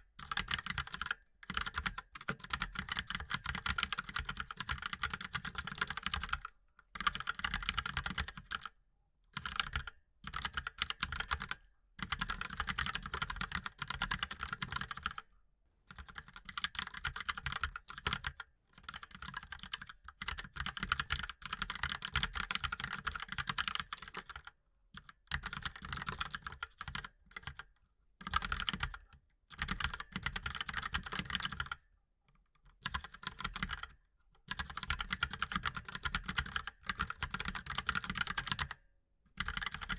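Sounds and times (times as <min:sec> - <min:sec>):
mechanical keyboard typing: 0:00.2 - 0:08.6, 0:09.4 - 0:15.2, 0:16.0 - 0:24.5, 0:25.3 - 0:27.6, 0:28.2 - 0:29.0, 0:29.6 - 0:31.8, 0:32.8 - 0:38.8, 0:39.4 - 0:39.9.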